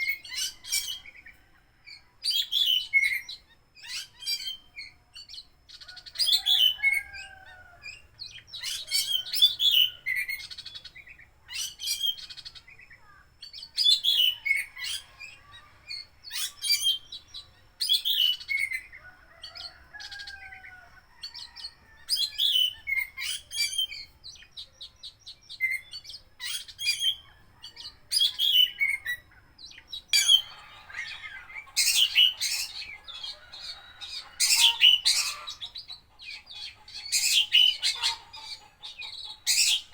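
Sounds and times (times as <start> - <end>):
bird singing whistles and trills: 0.0 - 20.5, 21.2 - 39.9.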